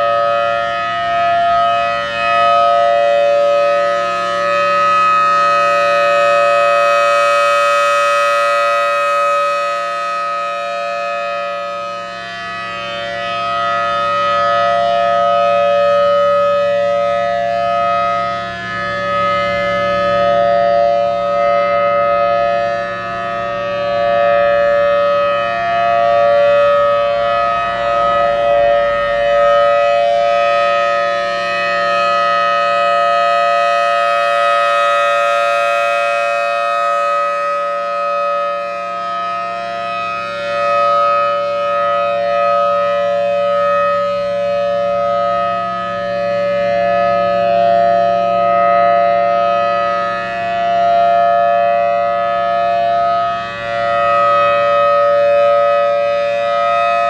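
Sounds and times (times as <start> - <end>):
rotating warning siren: 0.0 - 57.0.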